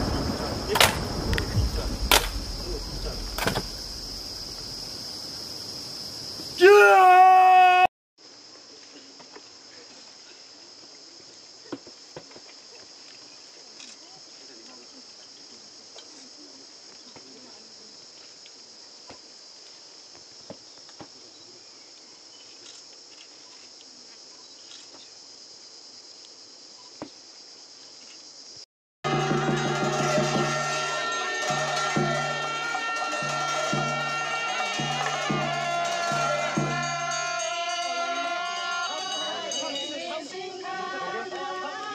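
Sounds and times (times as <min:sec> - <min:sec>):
insects chorus: 0:00.0 - 0:41.9.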